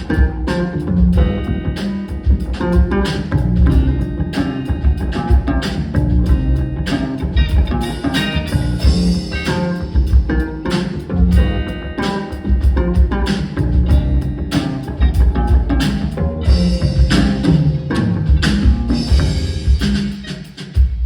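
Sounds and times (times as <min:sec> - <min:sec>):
guitar melody: 0:00.0 - 0:20.4
drum kit steady beat: 0:00.0 - 0:21.0.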